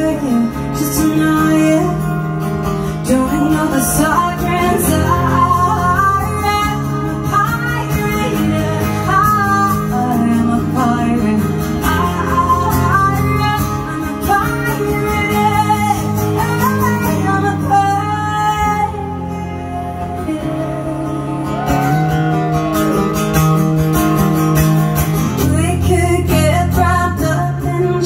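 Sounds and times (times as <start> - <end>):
guitar lead melody: 0.0 - 28.0
live band instrumental: 0.0 - 28.0.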